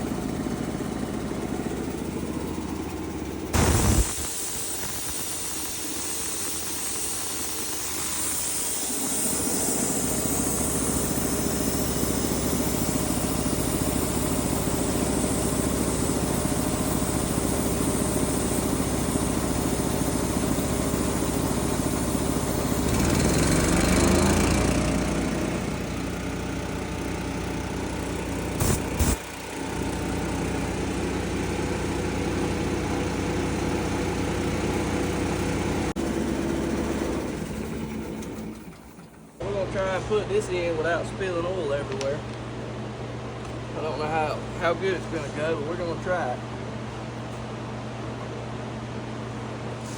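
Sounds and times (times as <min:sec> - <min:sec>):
engine running: 0:00.0 - 0:49.9.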